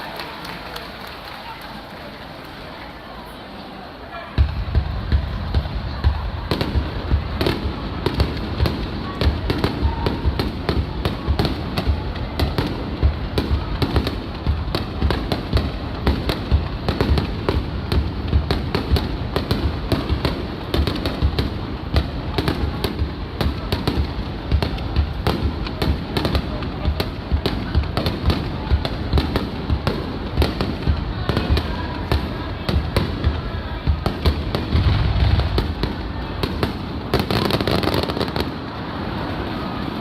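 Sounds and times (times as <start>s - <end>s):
fireworks bangs and crackles: 4.3s - 40.0s.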